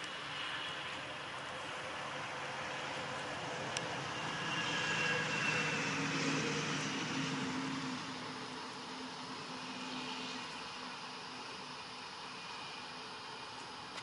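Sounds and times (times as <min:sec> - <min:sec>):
distant engine passing by: 0:00.0 - 0:11.8
outdoor background hiss: 0:00.0 - 0:14.0.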